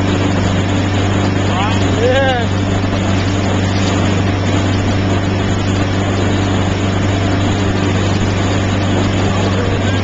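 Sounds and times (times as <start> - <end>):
churning wake rushing: 0.0 - 10.0
motorboat engine drone: 0.0 - 10.0.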